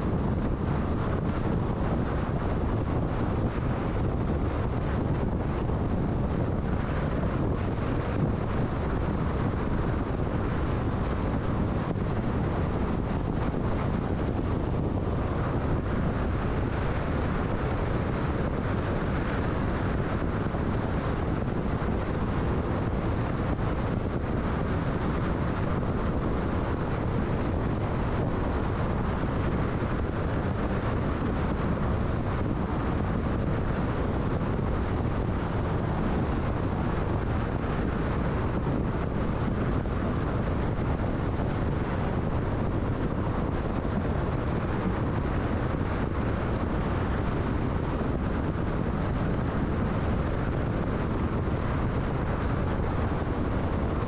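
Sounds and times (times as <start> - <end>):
tyre and wind noise: 0.0 - 54.0.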